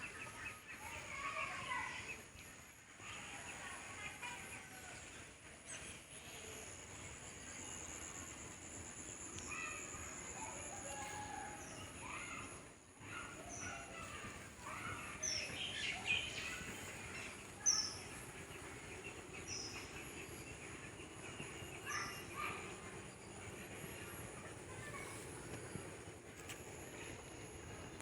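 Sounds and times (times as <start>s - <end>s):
lower chattering bird calls: 0.0s - 28.0s.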